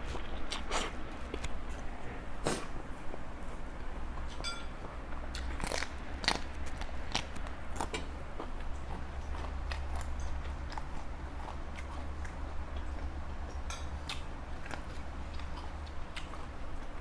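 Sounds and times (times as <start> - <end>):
person chewing crunchy food: 0.0 - 3.2, 4.0 - 17.0
steady low hum: 0.0 - 17.0.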